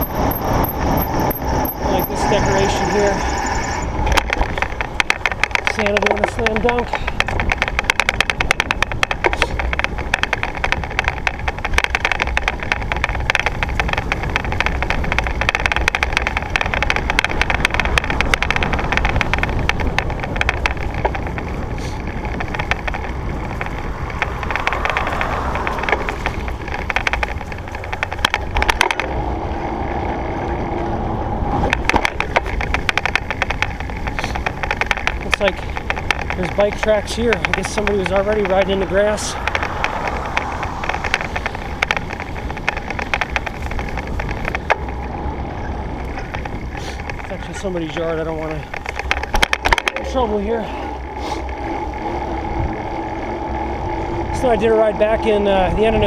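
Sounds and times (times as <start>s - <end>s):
small clicks and rattles: 0.0s - 30.9s, 31.5s - 56.0s
bicycle tyre rumble: 0.0s - 56.0s
wind on microphone: 0.0s - 56.0s.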